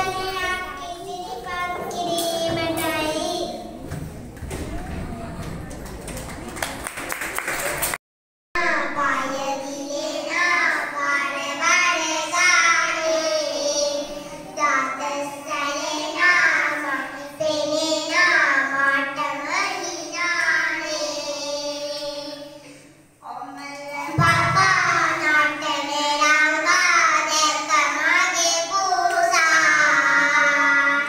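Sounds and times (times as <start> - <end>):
young children singing: 0.0 - 5.6, 8.6 - 31.0.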